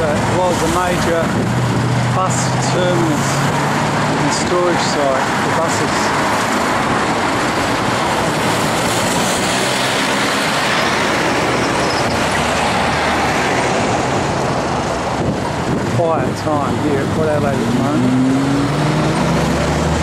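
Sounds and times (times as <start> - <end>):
trucks passing close: 0.0 - 20.0.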